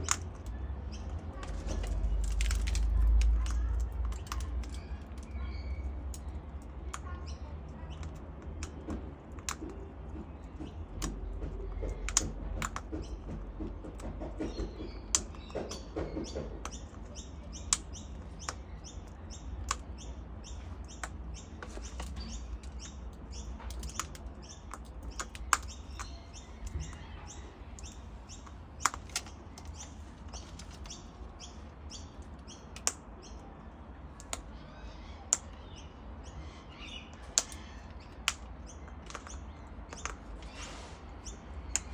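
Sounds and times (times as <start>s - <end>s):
beak crunching and cracking food: 0.0s - 35.9s, 37.0s - 41.9s
small birds chirping: 0.0s - 41.9s.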